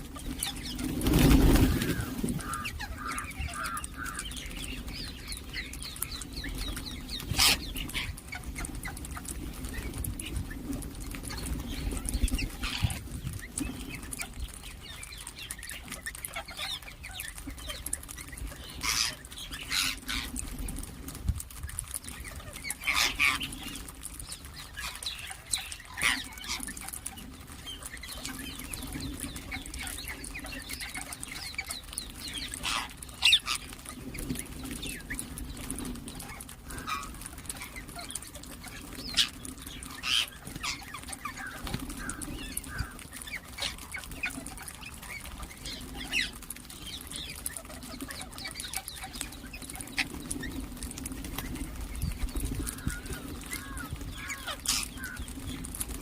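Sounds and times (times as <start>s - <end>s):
parakeets calling and chirping: 0.0s - 20.8s, 21.6s - 56.0s.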